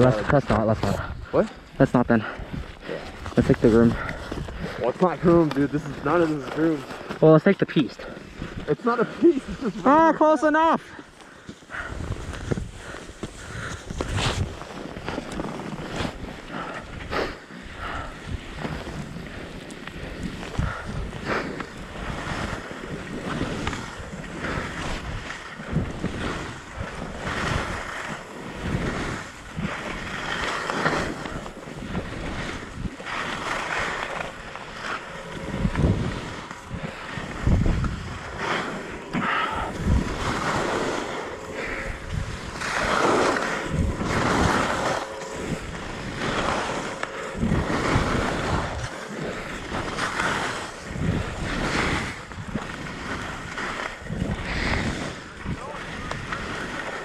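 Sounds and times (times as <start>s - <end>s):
wind buffeting microphone: 0.0s - 7.3s, 11.1s - 57.0s
skis scraping on packed snow: 0.0s - 57.0s.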